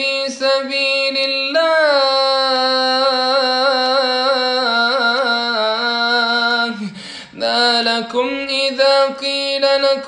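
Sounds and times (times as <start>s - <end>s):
man chanting: 0.0s - 10.0s.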